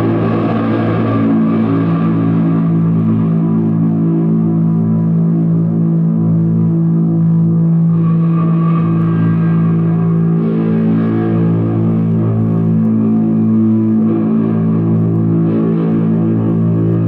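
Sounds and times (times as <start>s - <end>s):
dense low droning tones: 0.0s - 17.0s.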